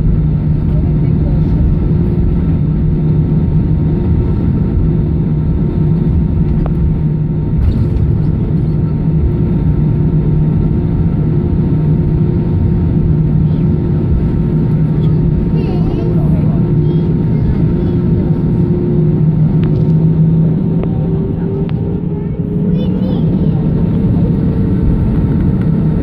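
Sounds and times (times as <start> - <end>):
jet engines droning in cabin: 0.0 - 26.0.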